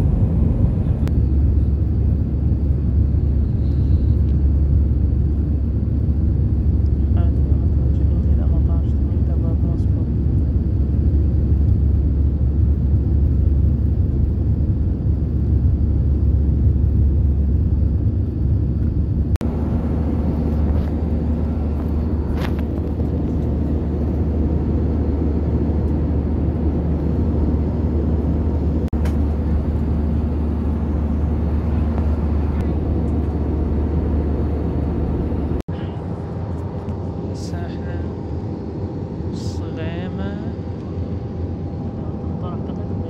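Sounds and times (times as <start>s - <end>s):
faint steady hum: 0.0s - 43.0s
jet engine and airflow rumble: 0.0s - 43.0s.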